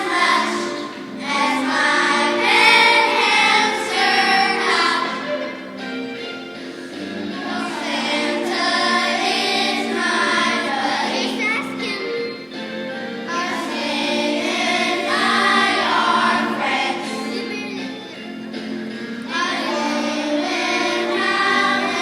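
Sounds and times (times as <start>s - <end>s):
children's choir singing: 0.0s - 22.0s.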